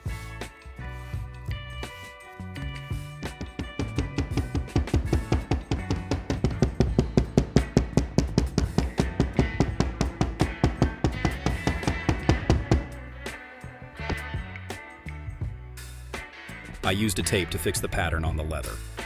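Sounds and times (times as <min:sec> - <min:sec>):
music with fast drum beat: 0:00.0 - 0:13.4, 0:14.1 - 0:17.0, 0:18.6 - 0:19.0.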